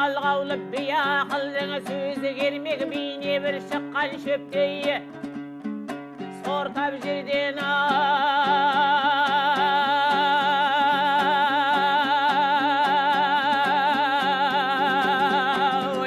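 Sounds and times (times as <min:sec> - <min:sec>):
person singing with vibrato: 0:00.0 - 0:05.4, 0:06.2 - 0:16.0
strummed lute: 0:00.0 - 0:16.0.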